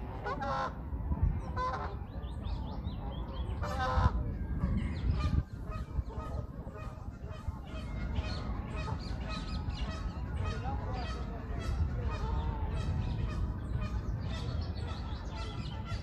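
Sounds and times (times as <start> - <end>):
steady low rumble: 0.0 - 16.0
waterfowl honking: 0.2 - 0.8, 1.6 - 2.0, 3.6 - 16.0.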